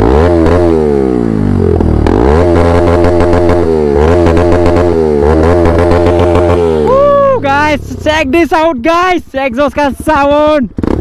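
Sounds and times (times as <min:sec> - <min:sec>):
motorcycle engine revving: 0:00.0 - 0:08.9, 0:09.6 - 0:11.0.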